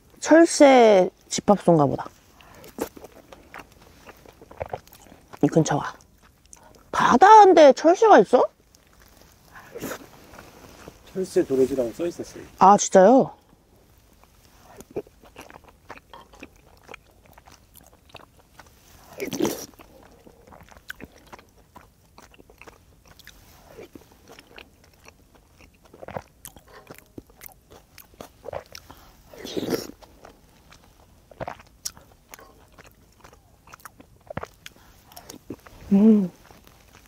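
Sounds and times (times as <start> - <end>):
person chewing food: 1.8 - 7.1, 8.6 - 11.1, 13.4 - 37.0.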